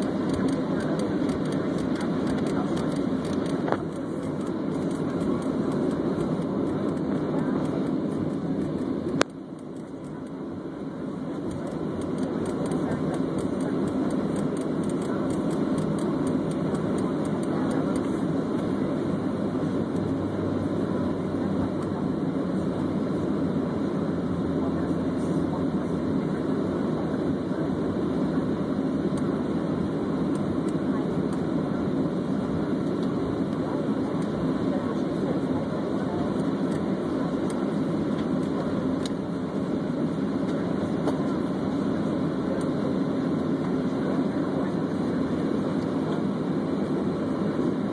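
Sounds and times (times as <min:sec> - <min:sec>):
jet engines roaring in cabin: 0:00.0 - 0:47.9.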